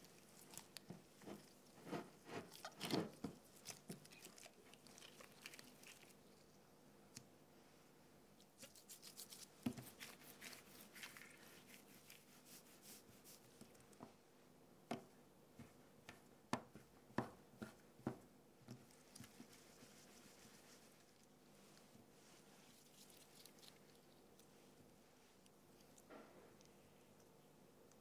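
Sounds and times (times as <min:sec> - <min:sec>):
hands rolling dough on a mat: 0:00.0 - 0:06.2, 0:08.4 - 0:14.2, 0:14.9 - 0:26.0.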